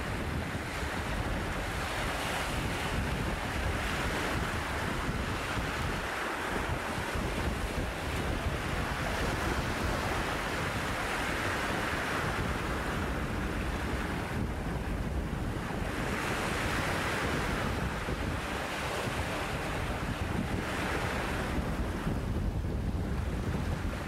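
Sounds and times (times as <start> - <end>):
waves splashing and breaking: 0.0 - 24.0
wind buffeting microphone: 0.0 - 24.0.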